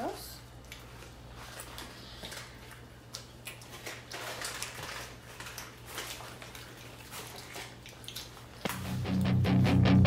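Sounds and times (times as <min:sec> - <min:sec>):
paper and plastic packaging rustling: 0:00.6 - 0:08.9.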